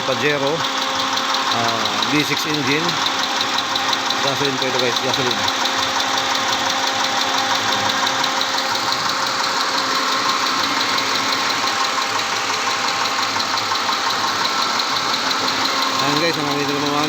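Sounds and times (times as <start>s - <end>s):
engine running with ticking knock: 0.0s - 17.0s.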